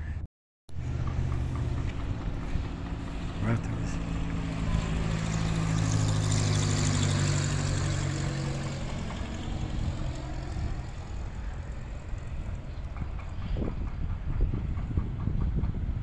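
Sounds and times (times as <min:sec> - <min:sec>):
propeller airplane engine drone: 0:00.0 - 0:16.0
rushing air of passing plane: 0:00.8 - 0:16.0.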